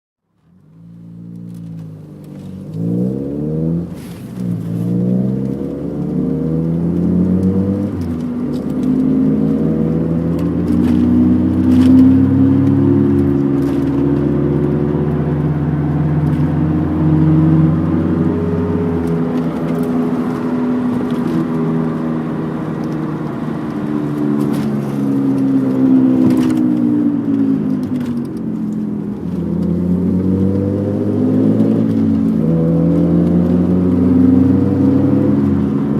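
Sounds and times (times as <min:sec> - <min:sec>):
car engine and road noise: 0:00.2 - 0:35.9.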